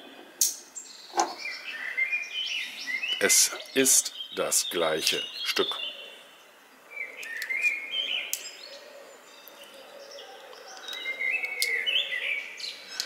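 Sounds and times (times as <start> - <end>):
bird singing warbled phrases: 0.0 - 13.0.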